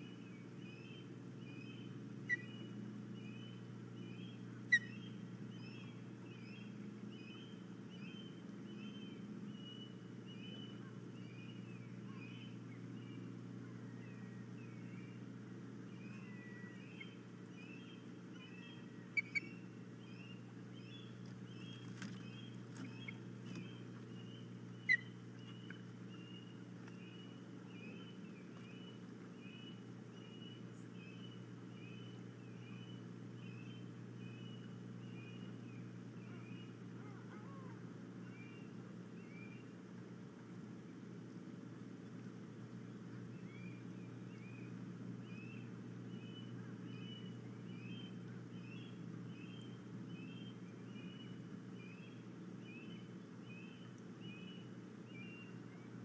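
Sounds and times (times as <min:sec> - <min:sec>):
bird chirping: 0:00.0 - 0:15.2, 0:15.9 - 0:39.7, 0:43.3 - 0:55.9
low hum: 0:00.0 - 0:56.0.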